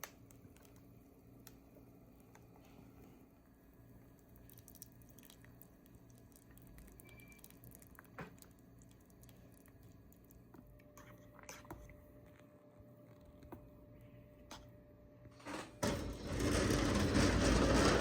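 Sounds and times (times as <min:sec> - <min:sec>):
faint low hum: 0:00.0 - 0:17.3.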